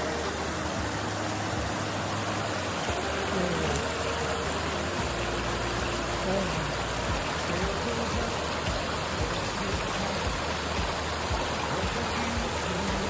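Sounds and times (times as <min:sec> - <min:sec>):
faint instrumental music: 0:00.0 - 0:13.0.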